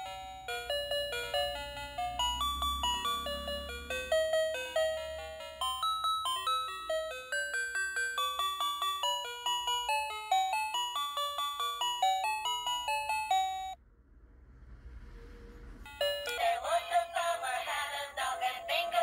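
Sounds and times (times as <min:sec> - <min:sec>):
toy playing chiming electronic tune: 0:00.0 - 0:13.8, 0:15.9 - 0:19.0.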